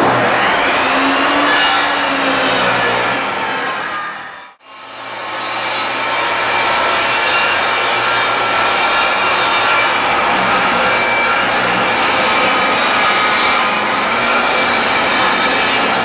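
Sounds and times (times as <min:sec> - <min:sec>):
table saw cutting wood: 0:00.0 - 0:16.0.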